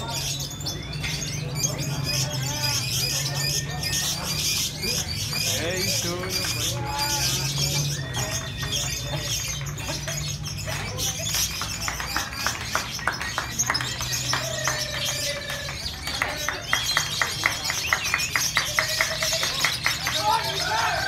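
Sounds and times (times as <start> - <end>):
lovebirds chirping: 0.0 - 21.0
murmur of voices: 0.0 - 21.0.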